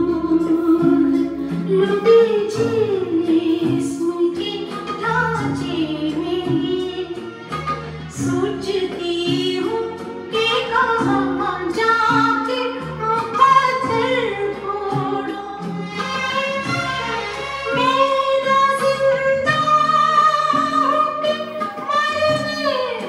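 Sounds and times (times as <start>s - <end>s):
woman singing with instrumental backing: 0.0s - 23.0s.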